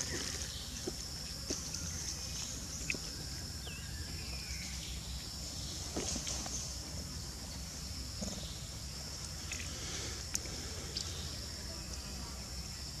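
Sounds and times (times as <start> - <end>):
insect chirp: 0.0 - 13.0.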